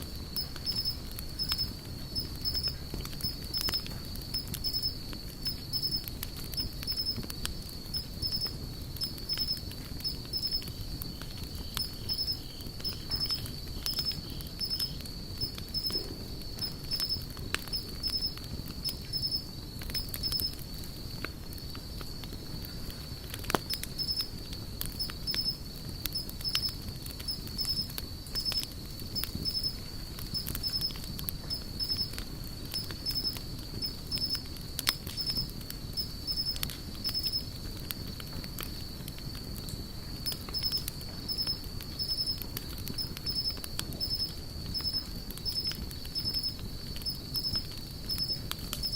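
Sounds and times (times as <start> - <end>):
insect trilling: 0.0 - 7.2, 7.9 - 10.7, 11.6 - 20.6, 23.7 - 24.3, 25.0 - 37.5, 40.2 - 48.9
low rumble of flames: 0.0 - 48.9
wood fire crackling and popping: 0.0 - 48.9.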